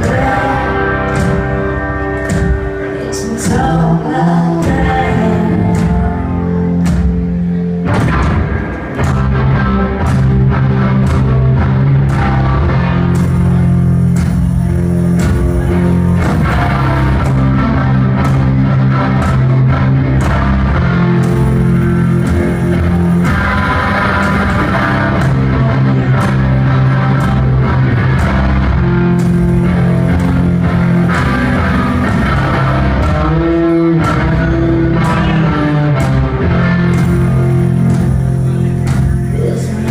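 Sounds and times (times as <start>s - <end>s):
bass guitar: 0.0s - 39.9s
drums: 0.0s - 39.9s
electric guitar: 0.0s - 39.9s.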